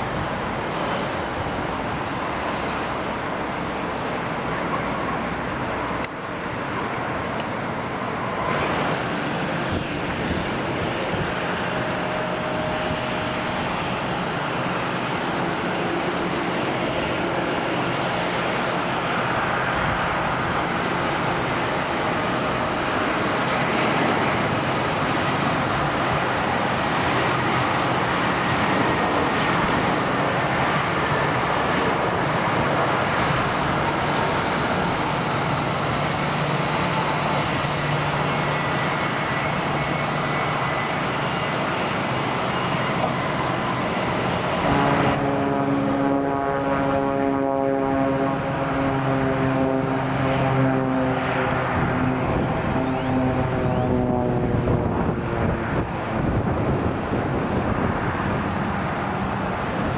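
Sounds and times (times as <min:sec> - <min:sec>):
aircraft engines rushing and whining: 0:00.0 - 0:59.9.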